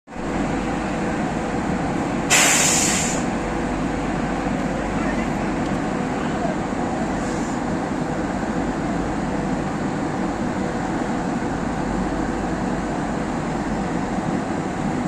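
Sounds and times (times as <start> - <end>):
train rumbling on track: 0.1 - 15.0.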